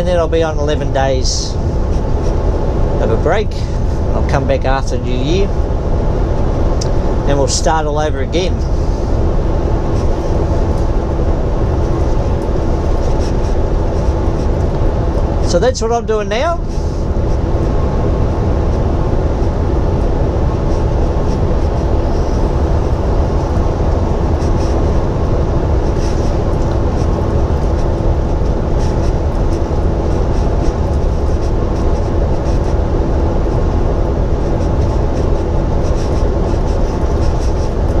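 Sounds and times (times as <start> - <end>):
truck cab engine and road drone: 0.0 - 38.0.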